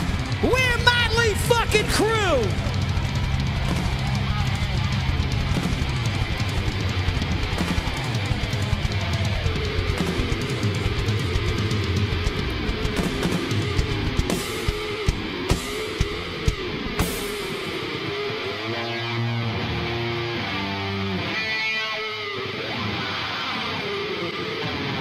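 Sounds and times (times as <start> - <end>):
electric guitar held notes: 0.0 - 25.0.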